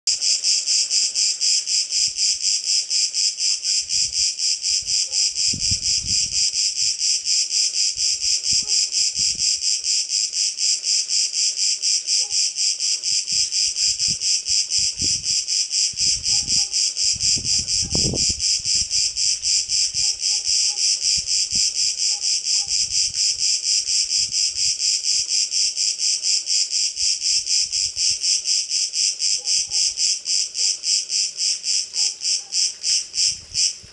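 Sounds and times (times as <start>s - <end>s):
cicada buzzing: 0.1s - 33.9s.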